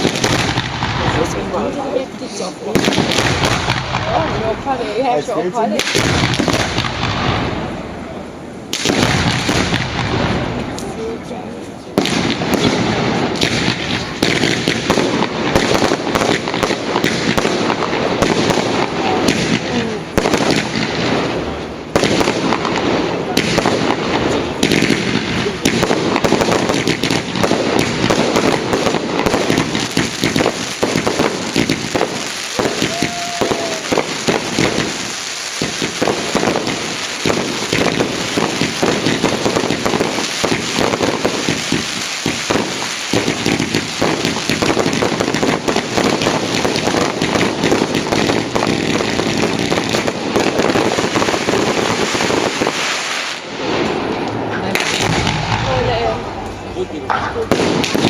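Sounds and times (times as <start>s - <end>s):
fireworks and firecrackers: 0.0s - 58.0s.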